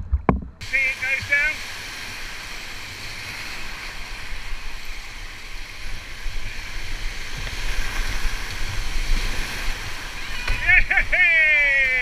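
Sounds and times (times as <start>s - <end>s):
whitewater rapids rushing: 0.6s - 12.0s.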